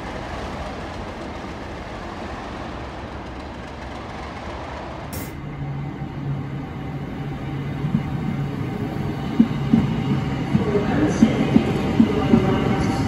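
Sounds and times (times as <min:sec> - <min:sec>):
diesel locomotives rumbling: 0:00.0 - 0:13.0
electric train approaching with hum: 0:00.0 - 0:13.0.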